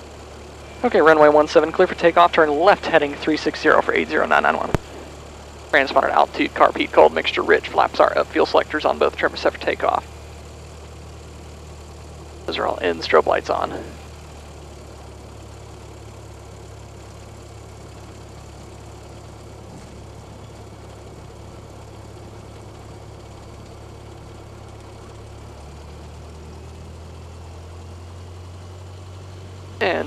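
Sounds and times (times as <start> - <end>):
propeller engine droning: 0.0 - 30.0.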